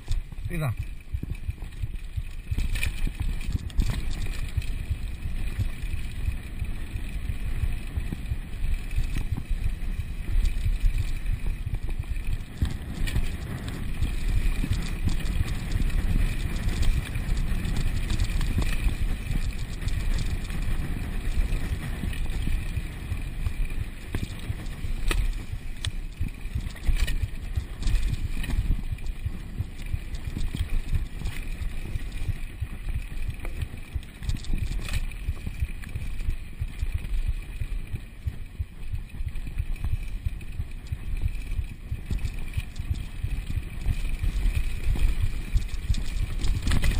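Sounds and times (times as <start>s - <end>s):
tyres rumbling on dirt: 0.0s - 38.8s
bike rattles and knocks: 0.0s - 46.9s
wind buffeting microphone: 0.0s - 46.9s.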